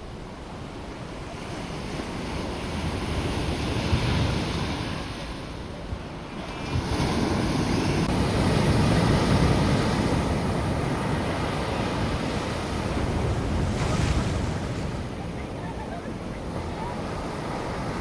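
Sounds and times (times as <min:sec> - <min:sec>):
ocean surf washing on beach: 0:00.0 - 0:18.0.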